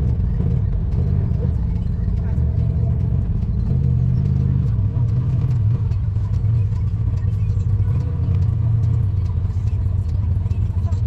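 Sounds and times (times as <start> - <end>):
vehicle engine low drone: 0.0 - 11.0.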